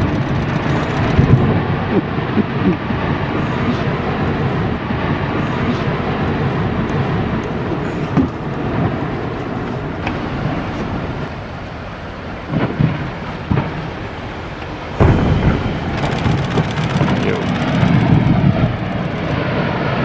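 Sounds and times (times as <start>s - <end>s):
iceberg collapsing rumble: 0.0s - 11.4s, 12.4s - 14.1s, 14.9s - 20.0s.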